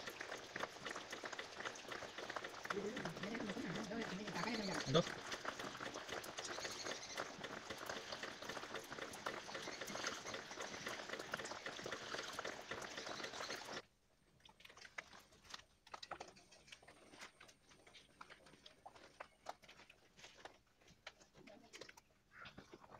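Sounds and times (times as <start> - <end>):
rain pattering into water: 0.0 - 13.8, 14.4 - 22.1.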